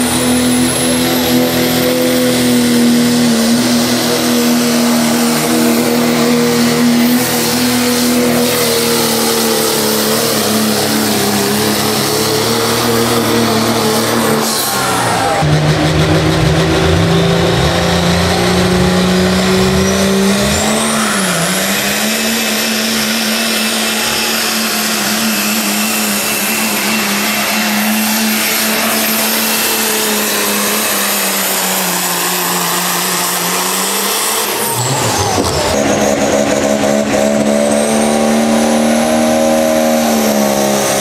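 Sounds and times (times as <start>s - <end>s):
diesel truck engine at full throttle: 0.0s - 41.0s
turbocharger whistle: 0.0s - 41.0s.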